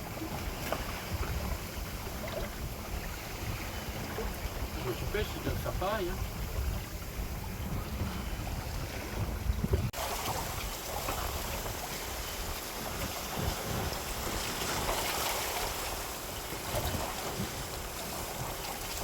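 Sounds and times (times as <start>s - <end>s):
water rushing: 0.0s - 19.0s
wind buffeting microphone: 0.0s - 19.0s.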